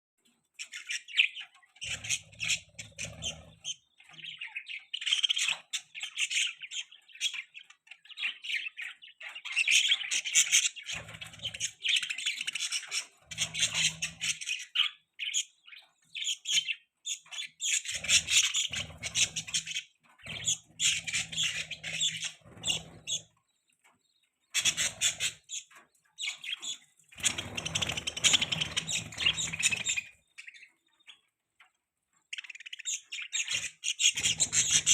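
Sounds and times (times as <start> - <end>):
budgie chirping and squawking: 0.6 - 23.4, 24.1 - 31.4, 32.2 - 34.9.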